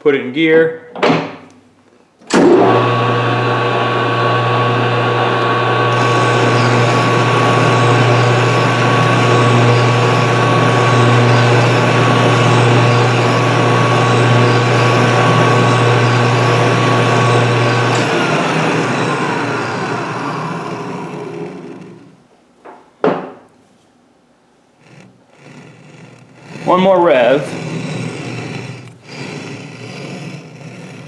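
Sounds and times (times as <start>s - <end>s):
lathe gear hum: 2.4s - 22.2s, 24.7s - 31.0s.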